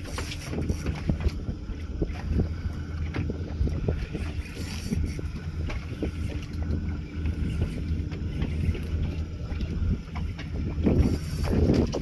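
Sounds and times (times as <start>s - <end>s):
boat engine idling: 0.0s - 12.0s
wind on microphone: 0.0s - 12.0s.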